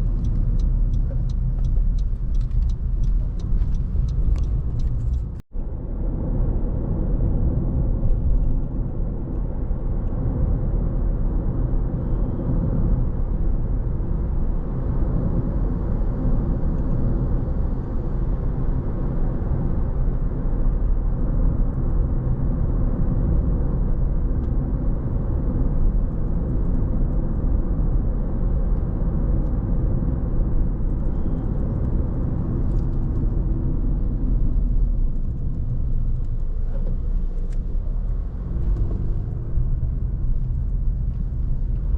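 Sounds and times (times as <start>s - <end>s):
car tyres and engine rumbling: 0.0s - 41.9s.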